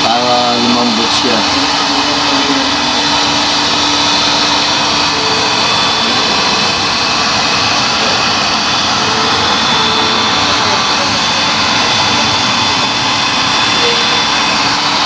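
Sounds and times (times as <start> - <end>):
heat gun fan blowing: 0.0 - 15.0.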